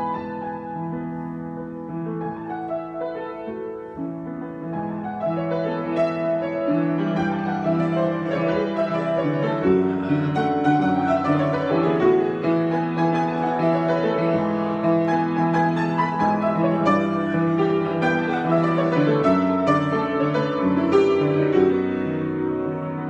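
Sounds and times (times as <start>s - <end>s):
solo piano playing: 0.0s - 23.0s.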